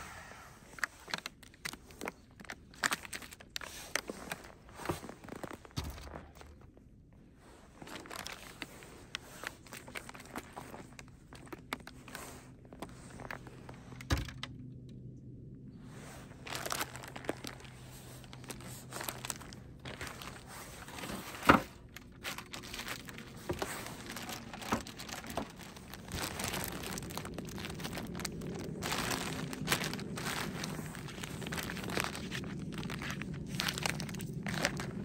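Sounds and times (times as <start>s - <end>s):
plastic bags crinkling: 0.7s - 6.6s, 7.7s - 14.4s, 16.2s - 35.0s.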